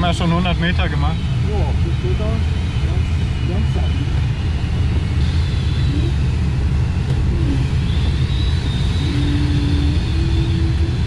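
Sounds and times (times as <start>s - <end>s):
airflow rushing over glider: 0.0s - 11.0s.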